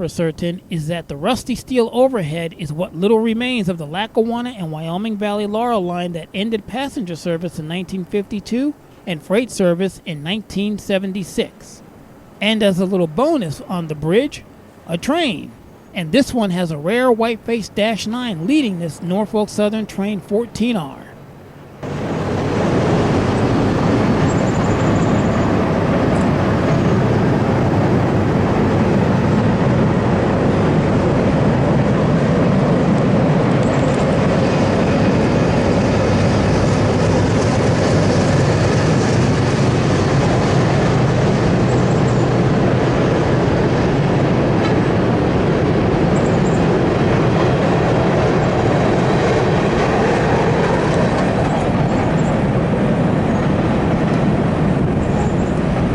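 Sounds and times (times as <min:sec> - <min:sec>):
freight train rumbling over bridge: 0:00.0 - 0:55.9.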